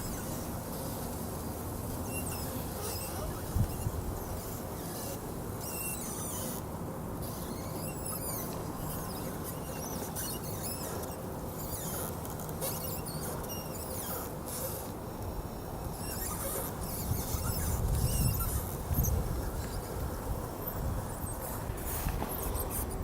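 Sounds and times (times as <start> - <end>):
small electric motor whining: 1.8 - 23.0.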